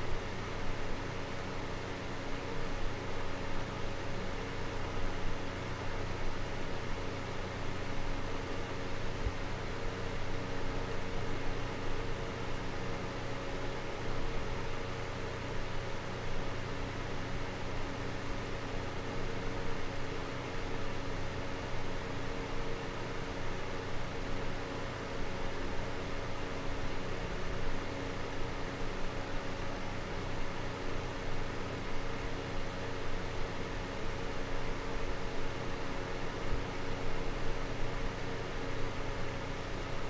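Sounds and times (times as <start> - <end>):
faint fan hum: 0.0 - 40.0.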